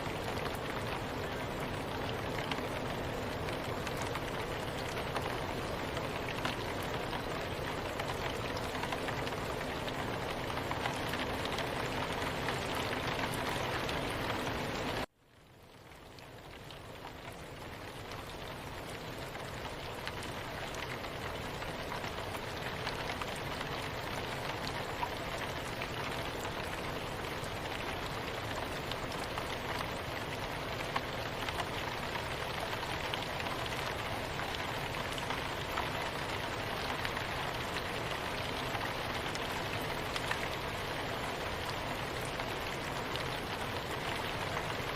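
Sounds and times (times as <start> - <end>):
soft rain pattering: 0.0 - 44.9.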